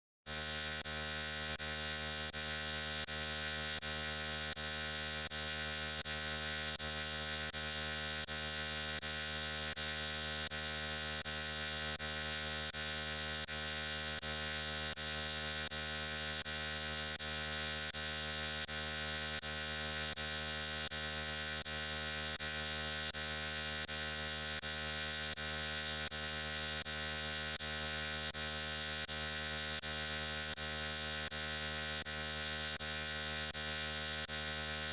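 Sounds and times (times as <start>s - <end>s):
electric buzzing hum: 0.3s - 34.9s.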